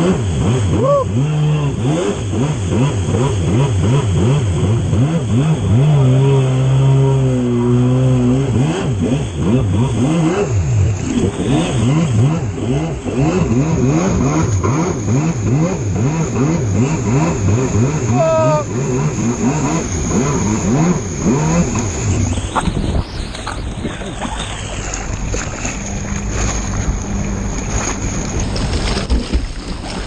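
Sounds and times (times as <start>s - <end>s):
jet ski engine revving: 0.0s - 30.0s
water rushing and spraying: 0.0s - 30.0s.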